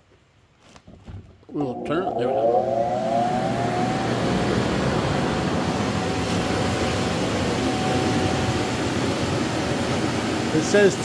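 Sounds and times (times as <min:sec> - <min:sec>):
electric blower rushing air: 0:01.6 - 0:11.0.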